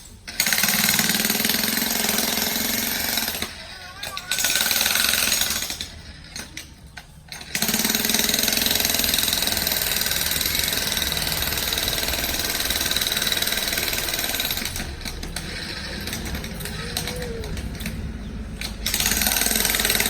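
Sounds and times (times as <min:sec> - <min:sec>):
power tool running: 0:00.3 - 0:06.6, 0:07.3 - 0:20.0.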